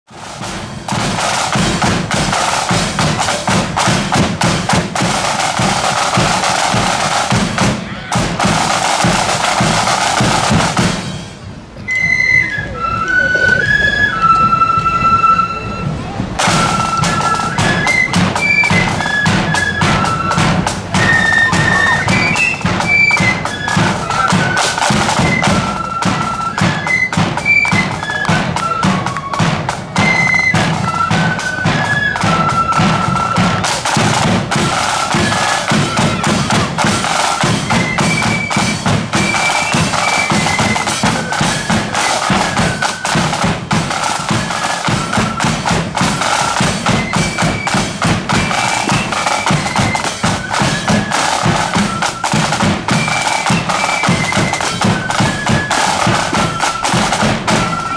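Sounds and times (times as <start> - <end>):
side drums: 0.1 - 11.9, 15.8 - 57.9
high flute melody: 0.1 - 57.9.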